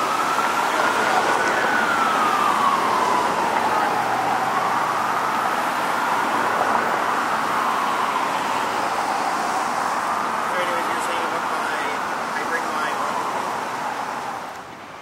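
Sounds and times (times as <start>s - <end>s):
ambulance siren wailing: 0.0s - 14.6s
passing car traffic: 0.0s - 15.0s.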